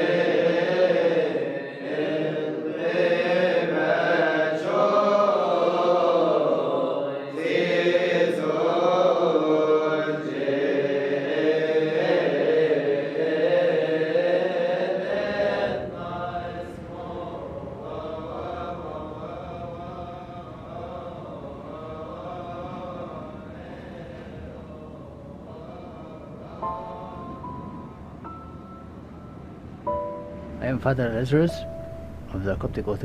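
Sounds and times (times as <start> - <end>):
voices chanting: 0.0 - 28.0.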